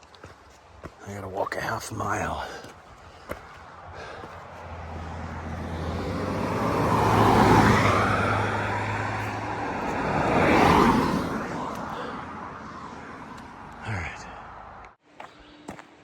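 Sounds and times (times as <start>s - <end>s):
vehicles passing by: 0.0s - 15.5s.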